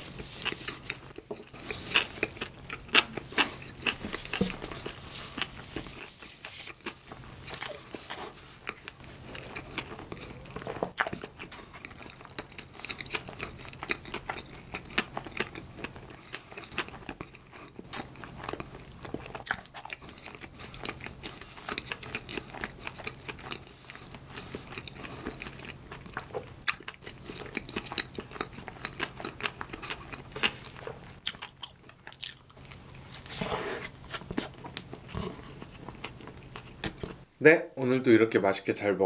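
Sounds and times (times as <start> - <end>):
biting and chewing bread: 0.0 - 37.3.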